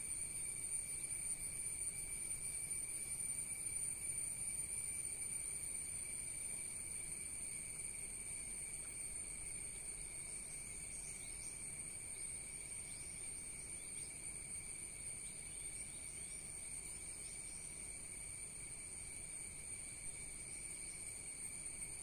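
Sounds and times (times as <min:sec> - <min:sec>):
insect chorus trilling: 0:00.0 - 0:22.0
low outdoor hum: 0:00.0 - 0:22.0.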